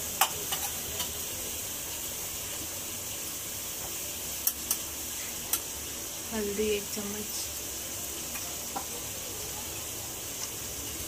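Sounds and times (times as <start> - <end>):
onions frying in a pot: 0.0 - 11.0.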